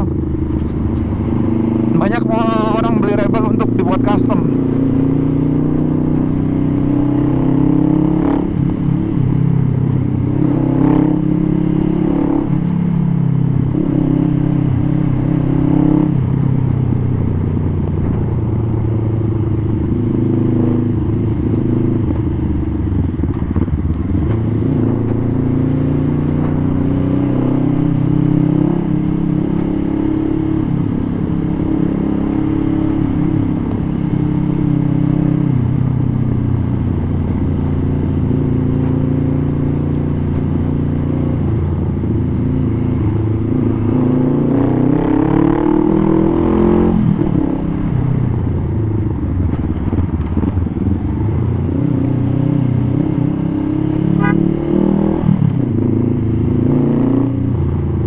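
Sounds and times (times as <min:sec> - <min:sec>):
motorcycle engine revving while riding: 0:00.0 - 0:58.0.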